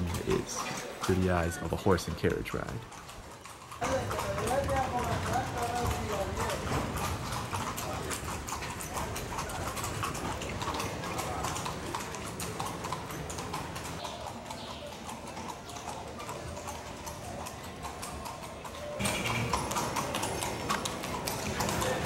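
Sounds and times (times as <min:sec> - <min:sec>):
hooves clip-clopping on pavement: 0:00.0 - 0:22.0.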